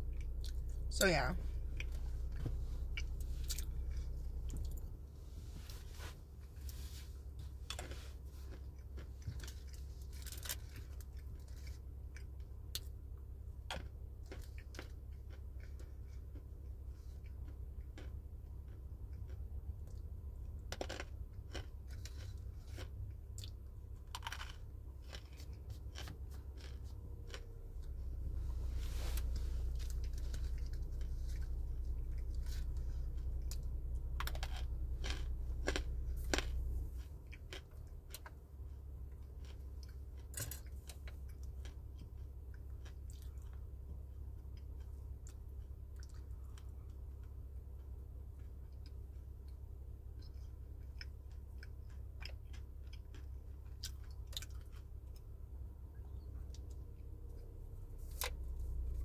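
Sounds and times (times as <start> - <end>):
low rumble: 0.0 - 14.2, 15.1 - 50.7, 53.6 - 59.0
crunching of chewing clay balls: 0.0 - 59.0.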